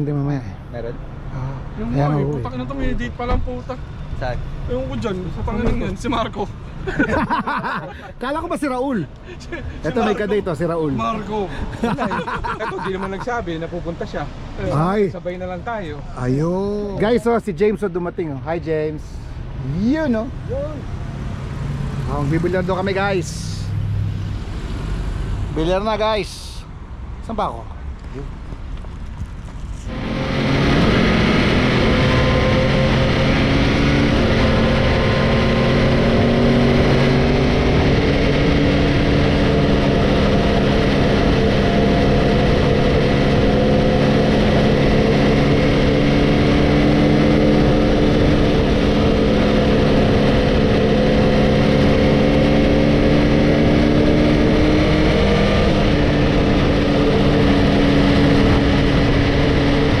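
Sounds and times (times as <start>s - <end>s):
wind and road noise: 0.0s - 60.0s.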